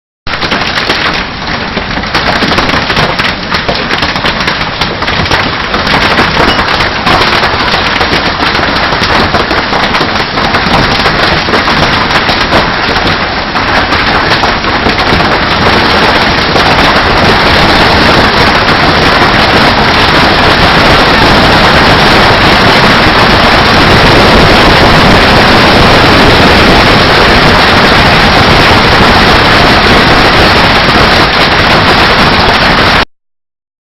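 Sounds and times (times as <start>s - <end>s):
hailstones pelting down: 0.3s - 33.0s.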